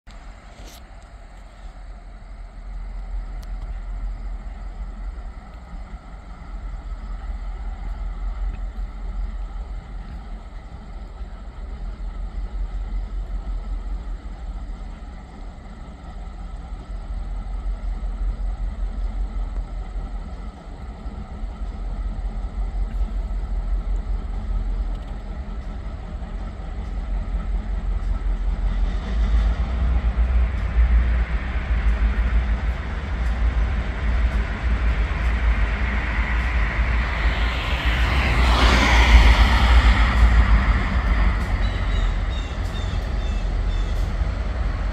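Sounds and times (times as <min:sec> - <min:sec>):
diesel locomotive engine rumble: 0:00.0 - 0:44.9
wheel-on-rail noise: 0:00.1 - 0:44.9.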